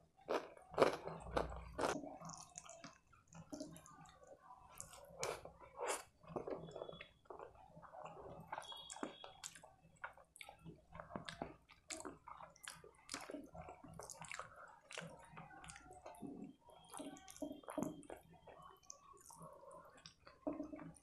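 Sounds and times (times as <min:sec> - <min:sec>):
chewing: 0:00.2 - 0:21.0
fingers squishing wet food: 0:00.2 - 0:21.0.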